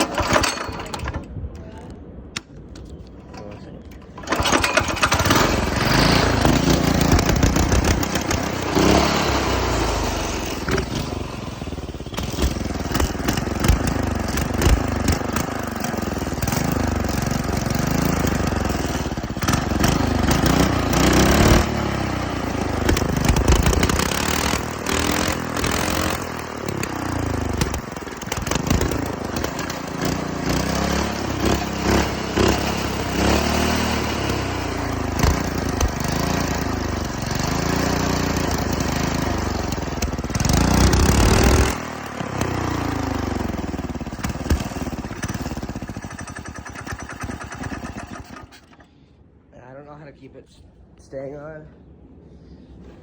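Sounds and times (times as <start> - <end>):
small engine revving: 0.0 - 1.3, 4.0 - 48.9.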